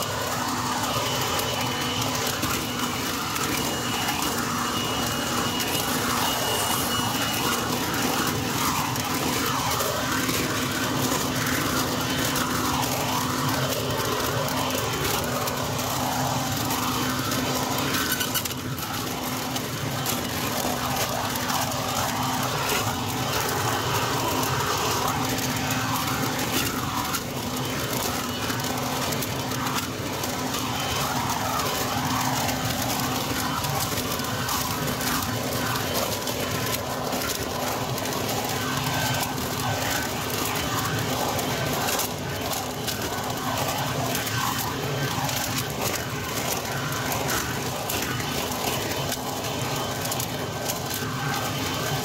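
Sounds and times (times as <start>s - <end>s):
leaf vacuum motor humming: 0.0s - 52.0s.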